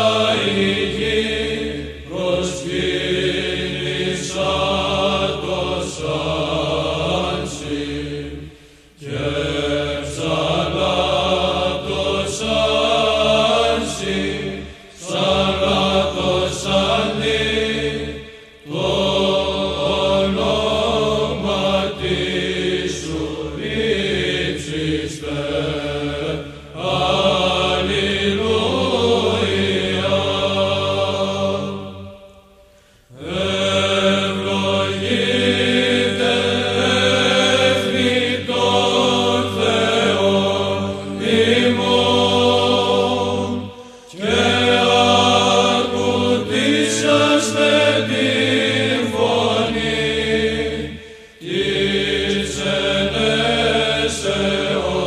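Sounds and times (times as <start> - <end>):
male choir chanting: 0.0 - 32.4, 33.1 - 55.0.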